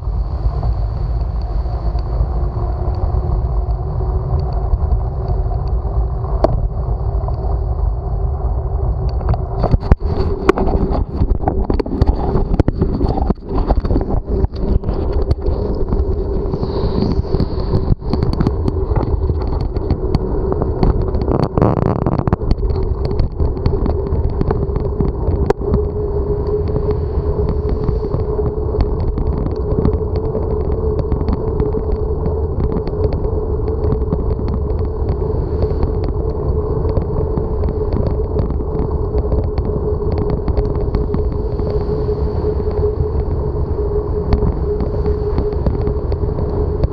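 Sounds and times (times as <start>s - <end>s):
mid-pitched whine: 0.0s - 46.9s
wind and rolling noise: 0.0s - 46.9s.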